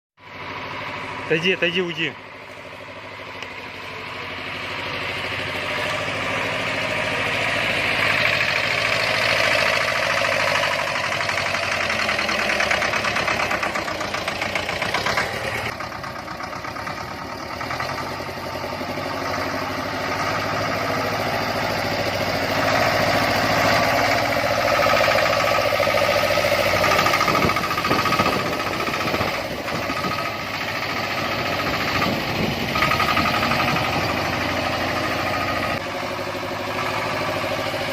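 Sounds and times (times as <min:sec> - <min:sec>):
tractor diesel engine running: 0:00.2 - 0:37.9.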